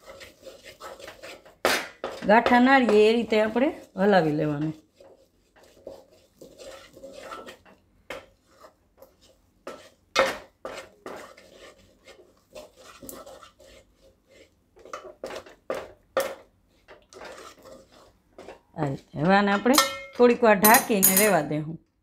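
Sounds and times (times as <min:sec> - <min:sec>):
metal utensil scraping a pot: 0:00.0 - 0:07.8, 0:08.4 - 0:21.4.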